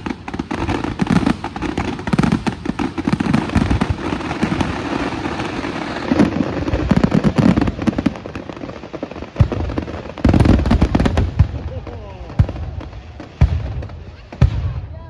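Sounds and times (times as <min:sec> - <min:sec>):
deep thumps of fireworks: 0:00.0 - 0:15.0
fireworks bangs and crackles: 0:00.0 - 0:15.0.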